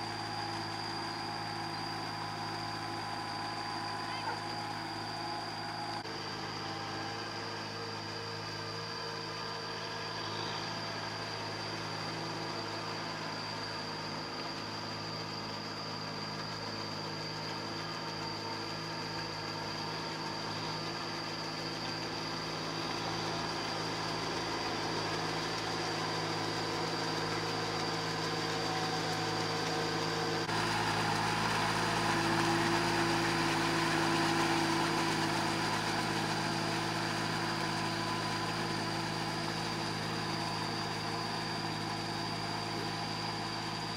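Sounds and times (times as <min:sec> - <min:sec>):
paddy tractor engine: 0:00.0 - 0:43.9
tractor diesel engine running: 0:00.0 - 0:43.9.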